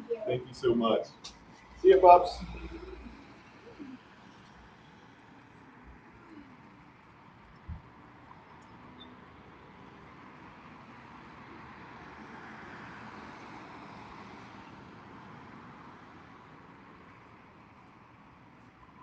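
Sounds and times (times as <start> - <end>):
vehicle passing on road: 0.0 - 18.8.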